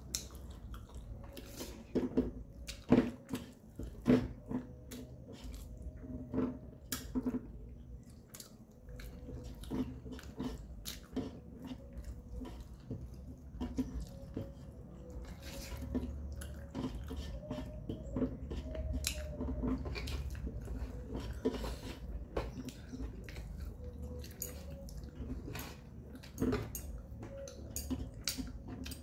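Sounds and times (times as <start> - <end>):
chewing with wet mouth clicks: 0.0 - 29.0.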